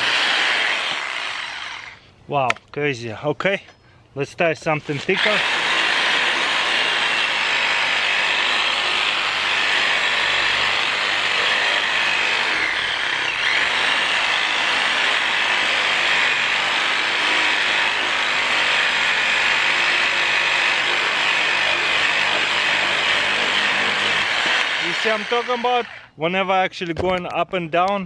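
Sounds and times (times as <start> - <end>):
reciprocating saw cutting wood: 0.0 - 2.0, 4.7 - 26.1.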